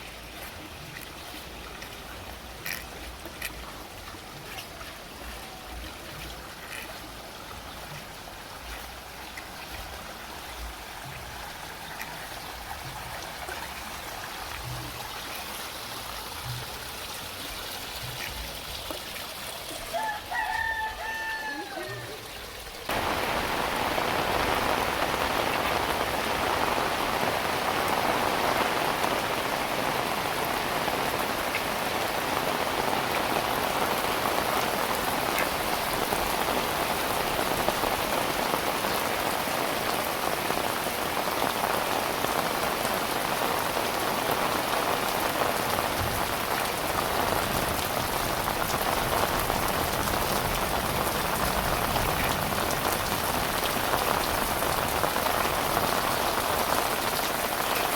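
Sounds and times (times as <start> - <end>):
heavy rain: 0.0 - 57.9
raindrops ticking: 0.0 - 57.9.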